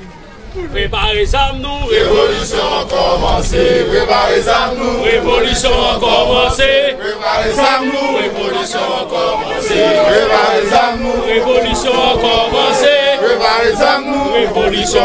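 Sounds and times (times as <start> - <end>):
group of men chanting: 1.8 - 15.0.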